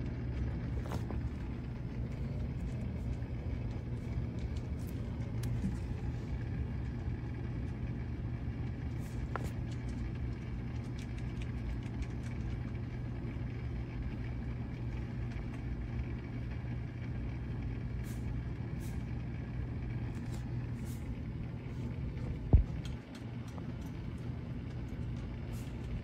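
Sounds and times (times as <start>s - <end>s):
hot tub pump humming: 0.0s - 26.0s.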